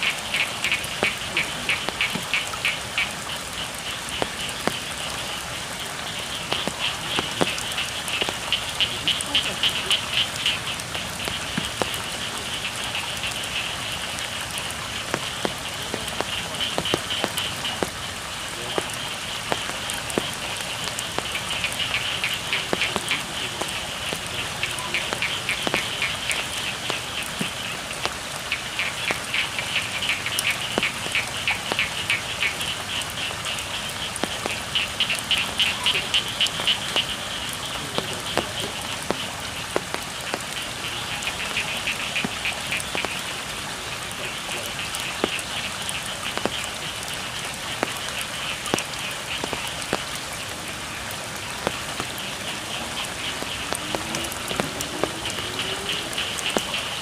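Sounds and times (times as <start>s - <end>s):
frogs calling in trills: 0.0s - 57.0s
steady rain falling: 0.0s - 57.0s.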